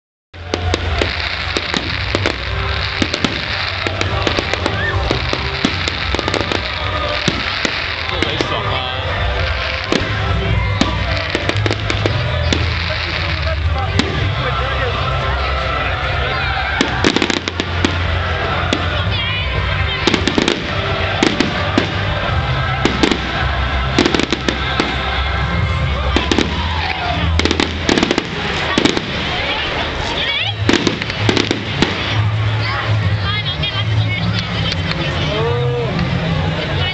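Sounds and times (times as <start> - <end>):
fireworks bangs and crackles: 0.4 - 35.3.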